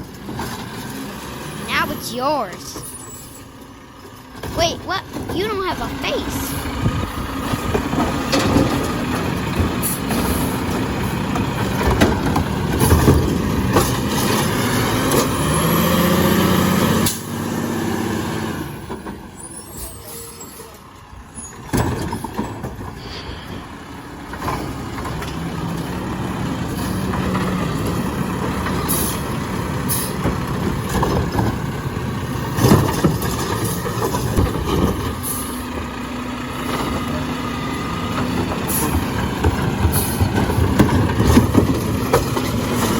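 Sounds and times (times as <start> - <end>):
garbage truck engine: 0.0 - 42.9.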